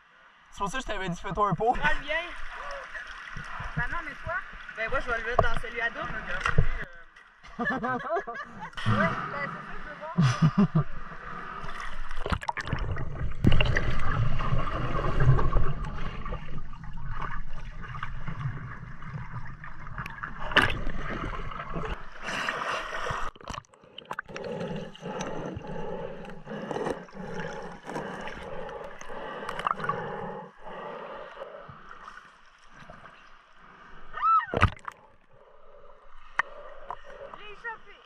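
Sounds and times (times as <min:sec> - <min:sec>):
water gurgling and sloshing: 0:00.0 - 0:38.0.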